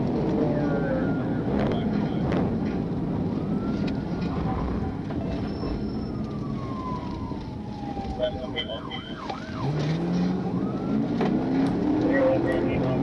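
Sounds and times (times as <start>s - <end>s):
police siren wailing: 0.0s - 13.0s
road and engine rumble: 0.0s - 13.0s.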